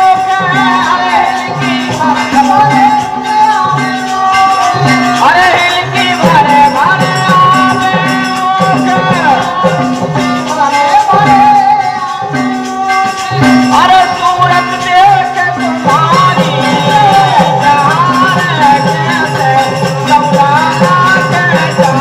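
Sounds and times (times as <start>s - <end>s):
hand drum beat: 0.0s - 22.0s
harmonium: 0.0s - 22.0s
jingling hand cymbals: 0.0s - 22.0s.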